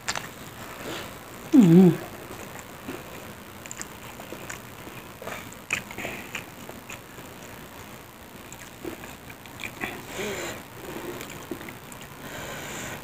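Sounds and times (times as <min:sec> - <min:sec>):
person chewing softly: 0:00.0 - 0:13.0.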